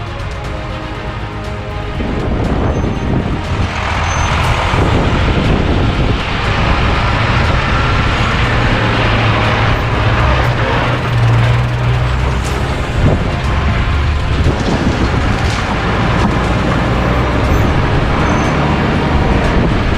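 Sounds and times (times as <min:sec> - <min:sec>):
road and wind noise: 0:00.0 - 0:19.9
truck diesel engine drone: 0:00.0 - 0:19.9.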